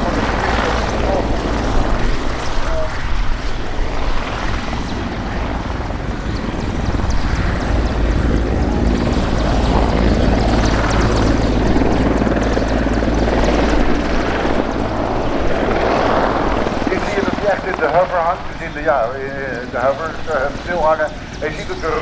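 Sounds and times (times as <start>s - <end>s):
helicopter hovering: 0.0s - 22.0s.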